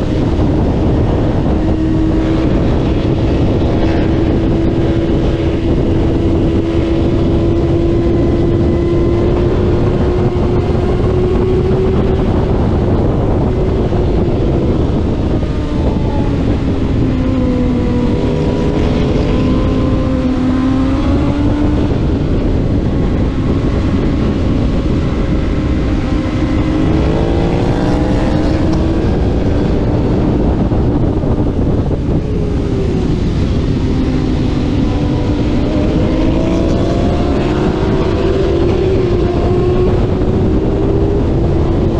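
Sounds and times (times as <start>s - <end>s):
motorcycle engine at speed: 0.0s - 41.9s
wind rush: 0.0s - 41.9s.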